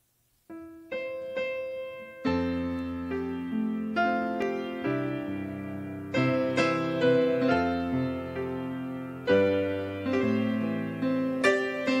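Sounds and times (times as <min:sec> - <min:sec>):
piano playing slow chords: 0:00.5 - 0:12.0.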